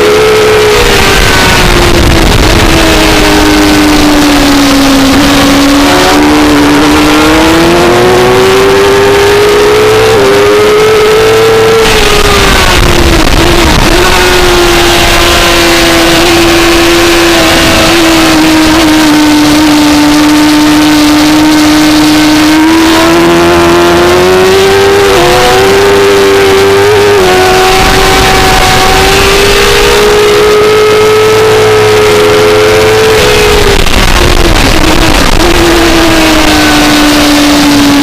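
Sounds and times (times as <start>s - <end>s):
motorcycle engine at high revs: 0.0s - 38.0s.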